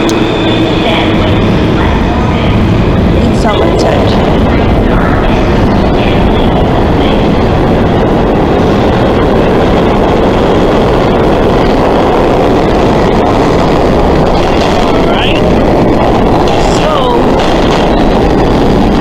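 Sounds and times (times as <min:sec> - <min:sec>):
subway train rumbling on track: 0:00.0 - 0:19.0.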